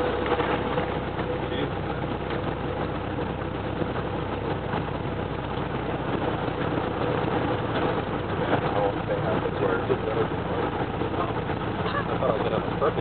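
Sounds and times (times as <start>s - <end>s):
airplane engine and propeller: 0.0s - 13.0s.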